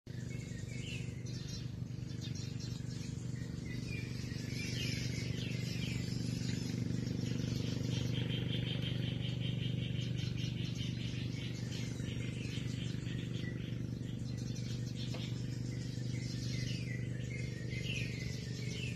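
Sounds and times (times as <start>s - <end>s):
birds chirping: 0.1s - 18.9s
low mechanical hum: 0.1s - 18.9s.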